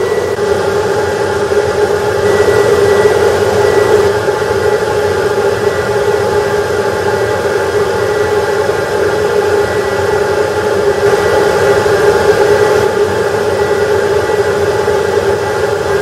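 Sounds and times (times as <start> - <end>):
motor running with hum and hiss: 0.0 - 16.0.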